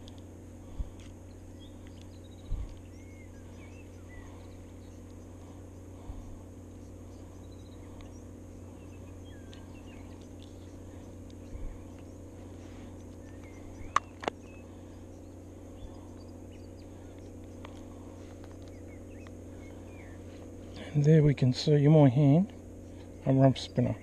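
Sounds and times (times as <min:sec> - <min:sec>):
low background hum: 0:00.0 - 0:24.0
small birds chirping: 0:00.0 - 0:24.0.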